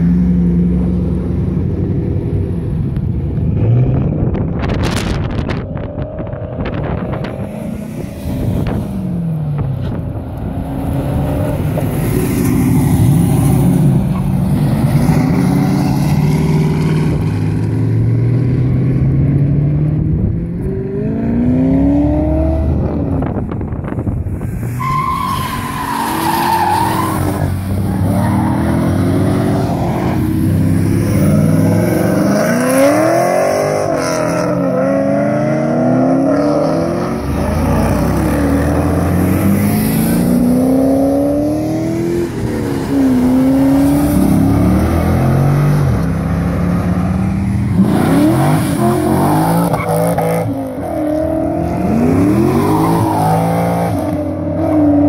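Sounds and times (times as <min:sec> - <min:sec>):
cars revving past: 0:00.0 - 0:55.0.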